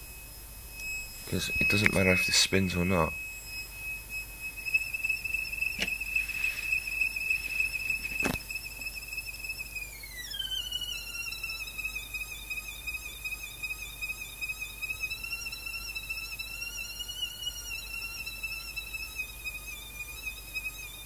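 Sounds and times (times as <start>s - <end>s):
high-pitched motor coil whine: 0.0s - 21.0s.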